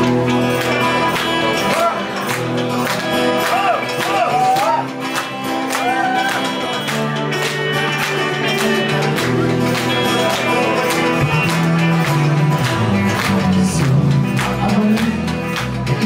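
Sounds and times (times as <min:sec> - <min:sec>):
bending lead guitar melody: 0:00.0 - 0:16.0
rock band playing: 0:00.0 - 0:16.0.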